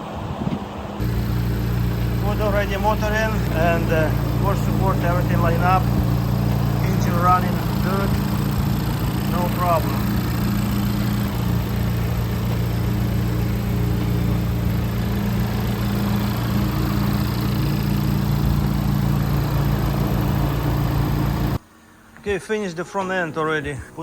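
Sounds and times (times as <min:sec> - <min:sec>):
car engine idling: 0:00.9 - 0:21.8.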